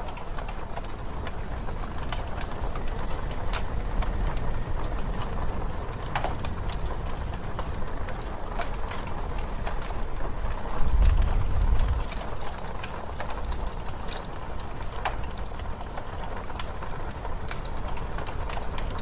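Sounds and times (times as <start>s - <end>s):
blizzard wind rumble: 0.0s - 19.0s
wood fire crackling and popping: 0.0s - 19.0s.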